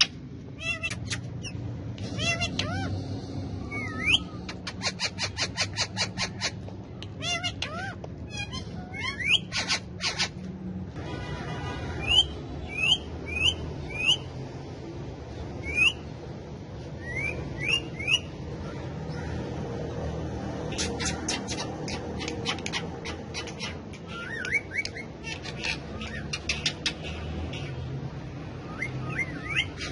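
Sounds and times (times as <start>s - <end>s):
parakeets squawking: 0.0s - 14.4s, 15.1s - 29.9s.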